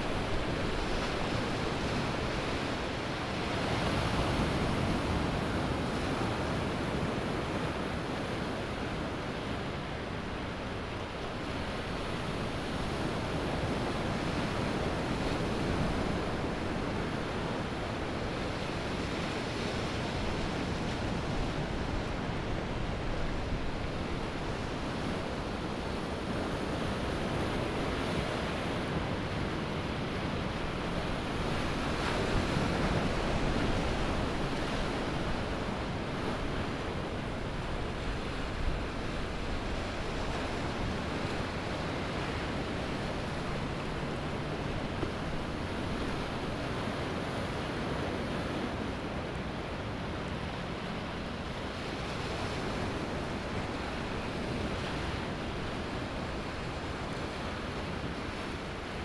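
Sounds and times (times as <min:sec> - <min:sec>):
ocean waves washing on beach: 0:00.0 - 0:59.0.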